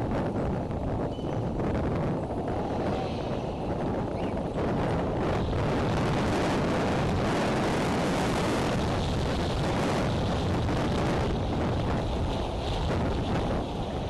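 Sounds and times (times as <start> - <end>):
strong gusty wind: 0.0 - 14.0.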